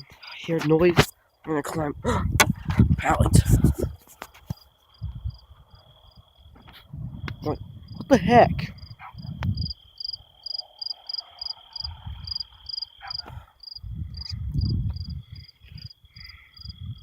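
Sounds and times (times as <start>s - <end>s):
crickets chirping in pulses: 0.0s - 17.0s
high insect trill: 3.0s - 17.0s.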